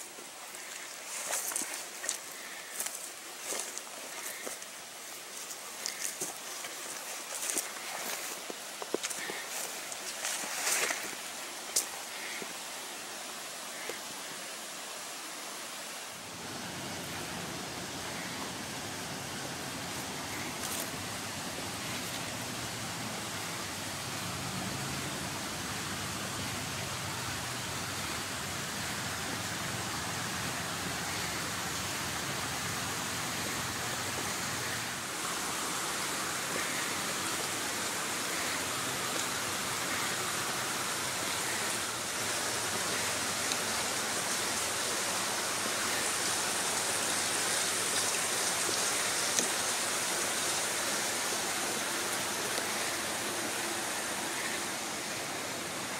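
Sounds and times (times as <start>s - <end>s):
flowing water rushing: 0.0s - 55.9s.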